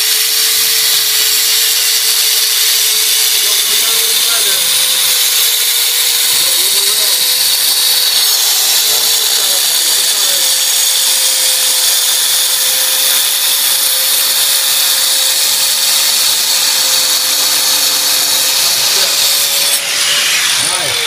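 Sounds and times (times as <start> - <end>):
dust vacuum hum: 0.0 - 21.0
power saw cutting stone: 0.0 - 21.0.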